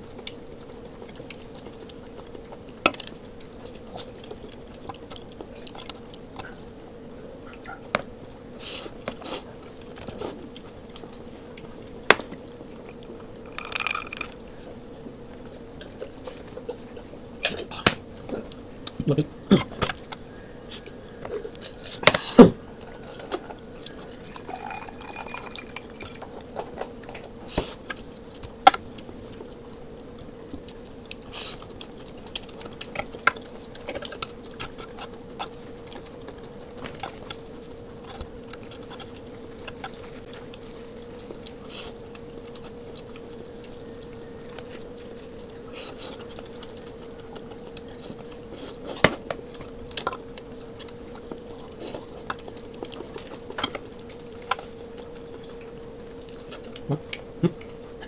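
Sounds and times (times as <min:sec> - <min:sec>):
faint hum: 0:00.0 - 0:58.0
people chewing: 0:00.0 - 0:58.0.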